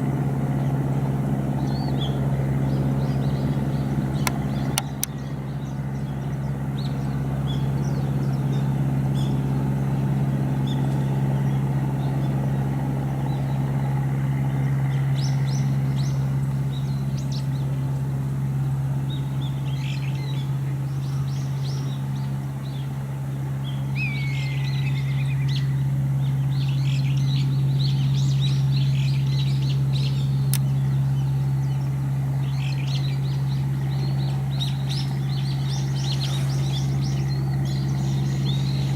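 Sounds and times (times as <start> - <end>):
low machine hum: 0.0 - 38.9
small birds chirping: 0.0 - 38.9.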